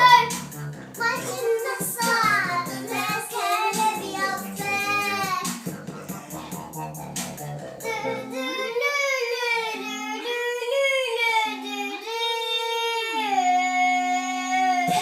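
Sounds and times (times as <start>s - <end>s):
child singing: 0.0s - 0.4s, 1.0s - 5.6s, 7.8s - 15.0s.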